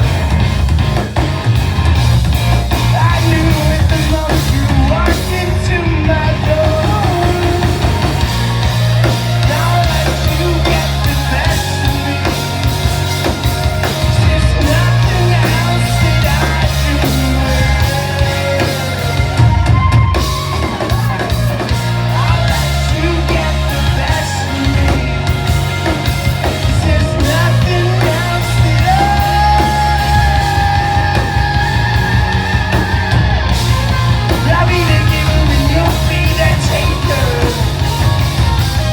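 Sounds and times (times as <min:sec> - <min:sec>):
bass guitar: 0:00.0 - 0:38.9
busy drums: 0:00.0 - 0:38.9
distorted guitars: 0:00.0 - 0:38.9.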